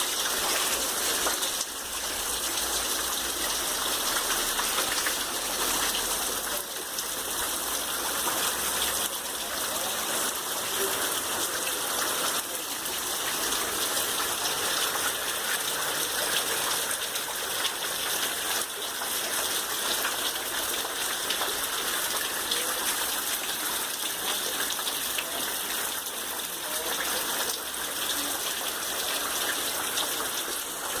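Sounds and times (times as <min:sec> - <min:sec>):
rain falling: 0:00.0 - 0:31.0.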